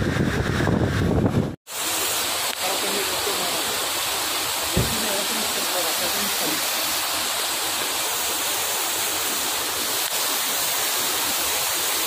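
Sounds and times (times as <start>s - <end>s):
torrential rain rushing: 1.7s - 12.0s.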